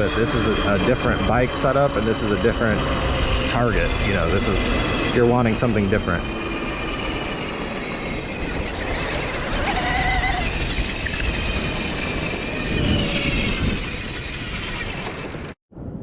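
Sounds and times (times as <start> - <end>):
bike tyre noise: 0.0 - 15.6
rushing wind: 0.0 - 16.0.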